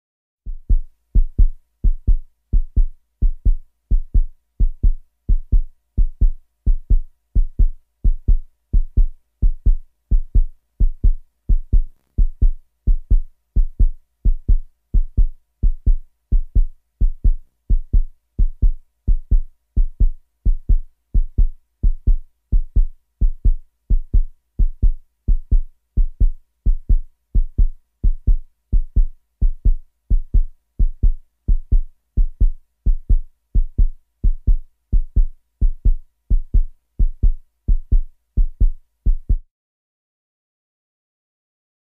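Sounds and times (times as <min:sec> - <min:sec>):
fast heartbeat thumps: 0:00.5 - 0:39.5.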